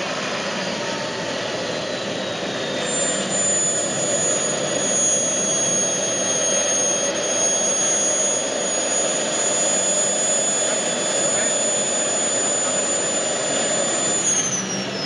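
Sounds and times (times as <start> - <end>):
gas turbine whine: 0.0 - 15.0
jet exhaust rush: 0.0 - 15.0.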